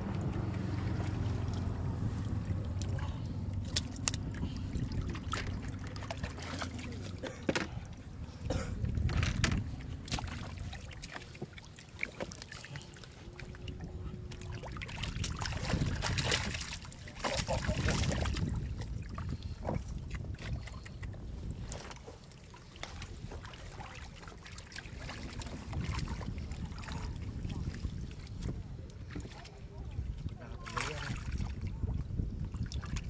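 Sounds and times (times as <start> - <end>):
fish thrashing in water: 0.0 - 33.0
low steady rumble: 0.0 - 33.0
muddy water splashing: 0.0 - 33.0.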